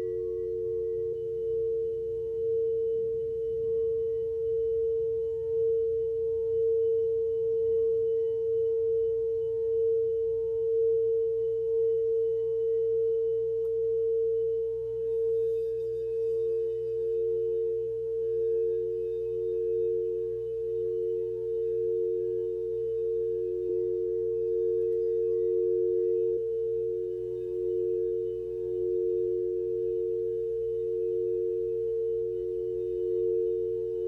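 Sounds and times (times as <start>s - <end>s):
lower drone tone: 0.0s - 34.0s
steady pure tone drone: 0.0s - 34.0s.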